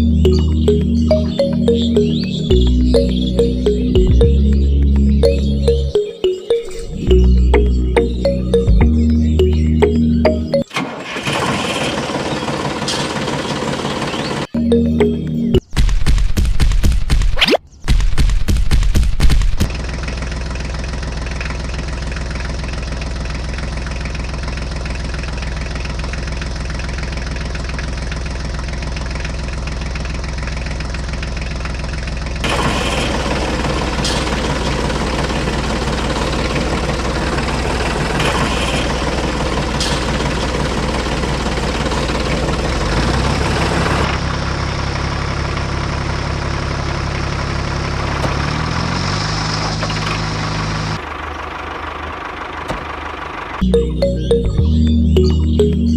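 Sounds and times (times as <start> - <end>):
tractor diesel engine idling: 0.0 - 6.0, 6.9 - 15.5, 19.7 - 55.8.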